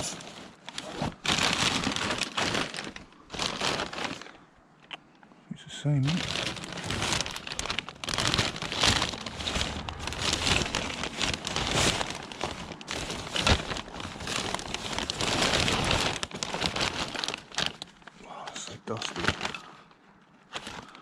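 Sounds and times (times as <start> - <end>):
junk crackling and rustling: 0.0 - 4.4, 6.0 - 21.0.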